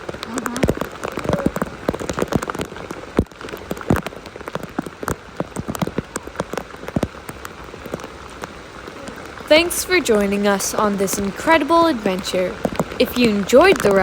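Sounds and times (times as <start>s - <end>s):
rain drop taps: 0.0s - 14.0s
steady rain hiss: 0.0s - 14.0s.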